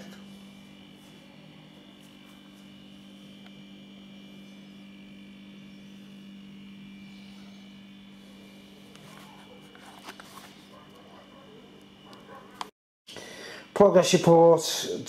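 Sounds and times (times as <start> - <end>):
faint high whine: 0.0 - 12.4
electrical hum: 0.0 - 15.0.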